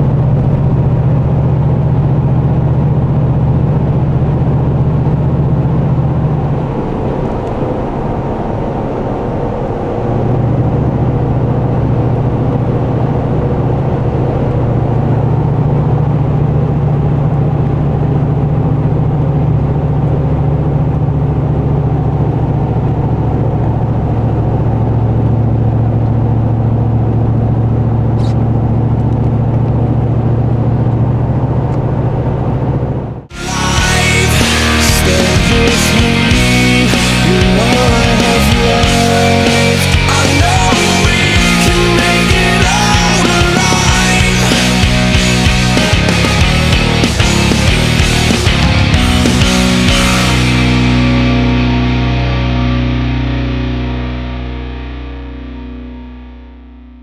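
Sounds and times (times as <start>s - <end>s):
truck exhaust drone: 0.0s - 57.0s.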